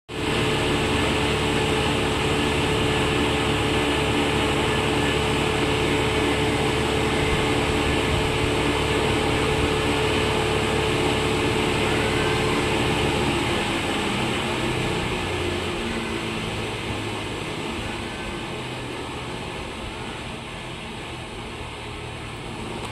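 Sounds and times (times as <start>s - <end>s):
mechanical hum: 0.1s - 22.9s.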